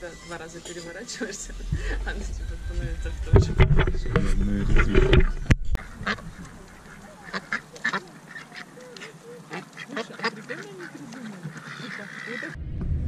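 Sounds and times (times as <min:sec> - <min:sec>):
ducks quacking: 0:00.0 - 0:12.6.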